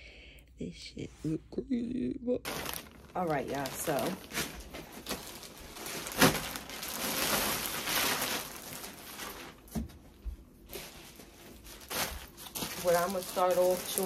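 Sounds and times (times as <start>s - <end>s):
clothes and packaging rustling: 2.4s - 14.0s.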